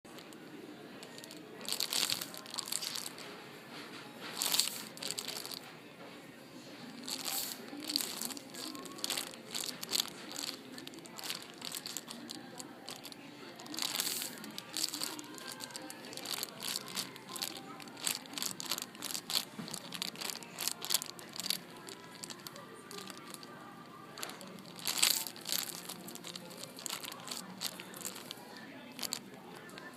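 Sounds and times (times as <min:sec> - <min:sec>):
plastic packaging crinkling: 0:01.1 - 0:03.2, 0:04.4 - 0:05.6, 0:07.0 - 0:23.5, 0:24.2 - 0:28.4, 0:29.0 - 0:29.9.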